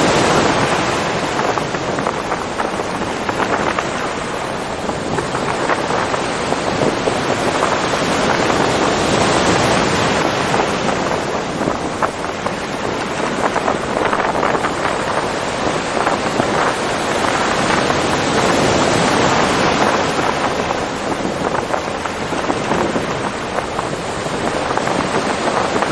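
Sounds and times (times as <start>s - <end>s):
waves breaking: 0.0s - 25.9s.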